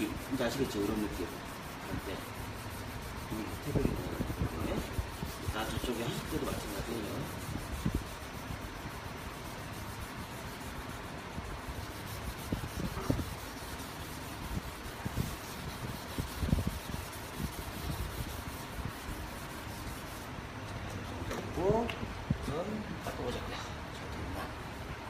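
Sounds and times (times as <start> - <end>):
sanding block rubbing wet panel: 0.0 - 20.3.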